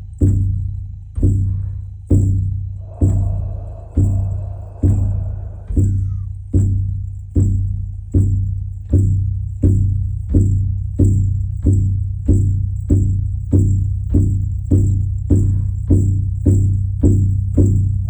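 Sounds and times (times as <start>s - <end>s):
frame drum booming strokes: 1.2s - 18.0s.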